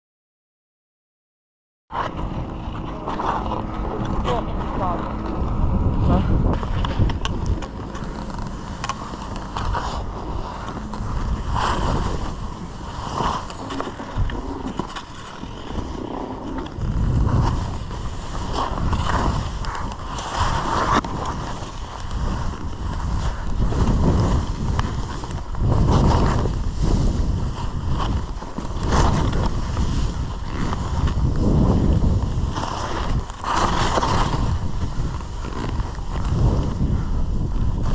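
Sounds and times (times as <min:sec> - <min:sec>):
skis scraping over snow: 0:01.9 - 0:37.9
wind rushing across microphone: 0:01.9 - 0:37.9.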